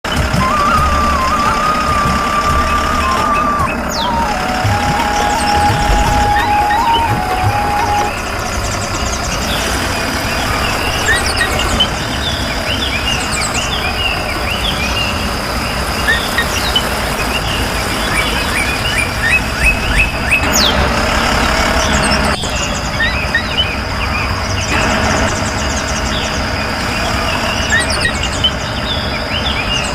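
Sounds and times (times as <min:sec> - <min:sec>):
birds chirping: 0:00.0 - 0:29.9
tractor engine running: 0:00.0 - 0:29.9.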